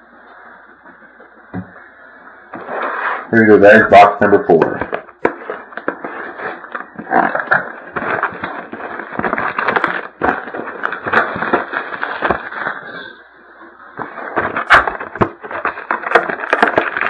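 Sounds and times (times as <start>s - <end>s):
plastic wrap crinkling and tearing: 2.5s - 17.0s.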